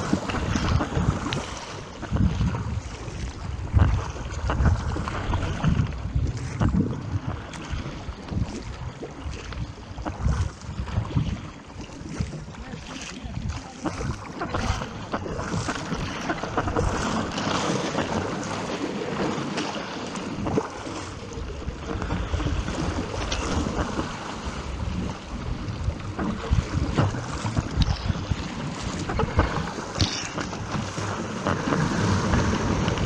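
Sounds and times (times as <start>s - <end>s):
water rushing and splashing: 0.0s - 33.0s
wind buffeting microphone: 0.0s - 33.0s.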